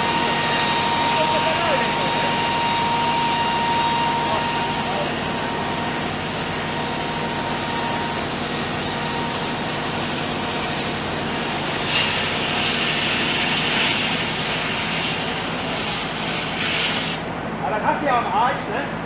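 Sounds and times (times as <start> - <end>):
heavy machinery engine: 0.0 - 19.0.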